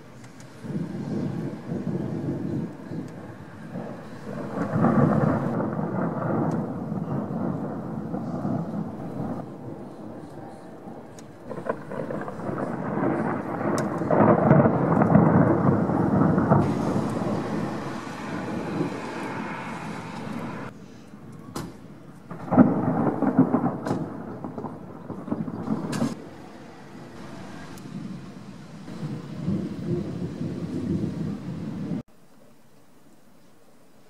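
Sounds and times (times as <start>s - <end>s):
thunder rumbling: 0.0s - 32.1s.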